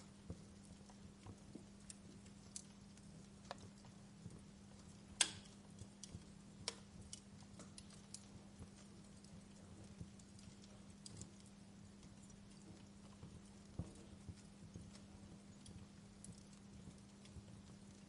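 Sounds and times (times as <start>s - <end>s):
faint low hum: 0.0s - 18.0s
wood fire crackling: 0.0s - 18.0s.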